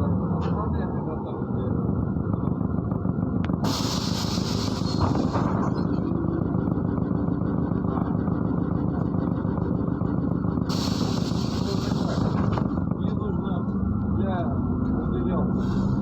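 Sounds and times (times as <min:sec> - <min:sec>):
bus engine low rumble: 0:00.0 - 0:16.0.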